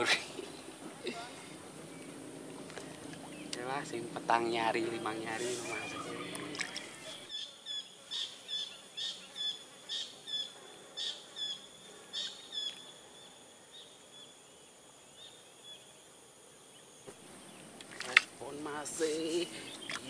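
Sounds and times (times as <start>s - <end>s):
bird chirping: 0.0s - 16.0s, 19.4s - 20.0s.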